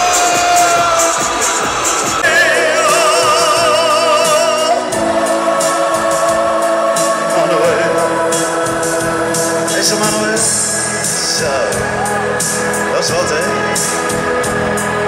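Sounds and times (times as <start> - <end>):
steady musical accompaniment: 0.0 - 15.0
person singing with vibrato: 2.2 - 15.0.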